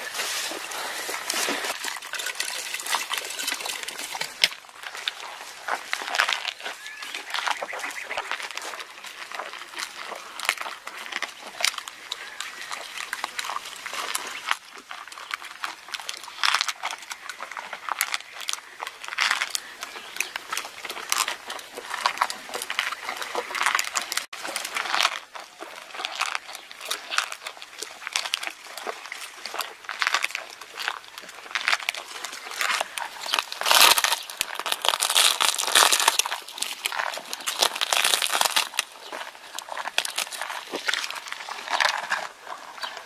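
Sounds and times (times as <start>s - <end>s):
camel chewing cactus: 0.0s - 43.0s.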